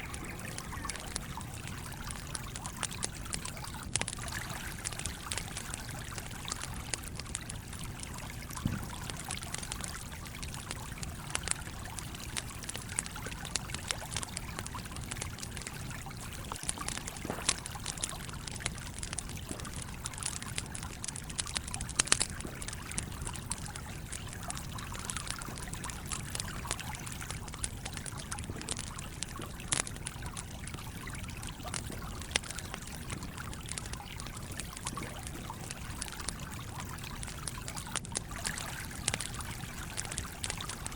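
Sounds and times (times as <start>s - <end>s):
flowing stream: 0.0s - 10.3s, 13.0s - 40.9s
campfire crackling and popping: 0.0s - 40.9s.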